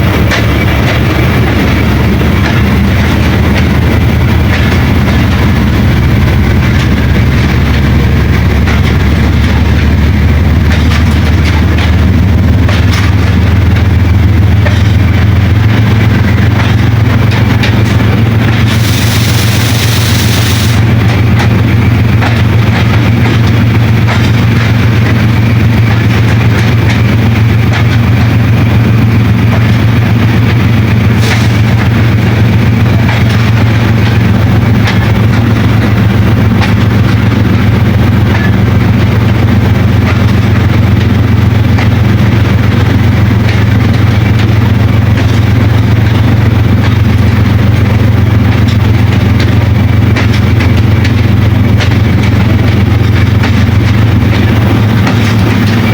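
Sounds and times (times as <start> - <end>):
diesel locomotive engine droning: 0.0 - 55.9.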